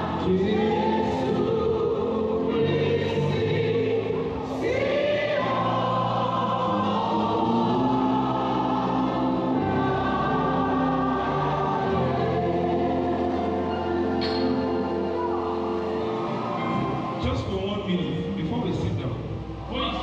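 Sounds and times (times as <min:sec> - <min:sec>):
choir singing gospel: 0:00.0 - 0:20.0.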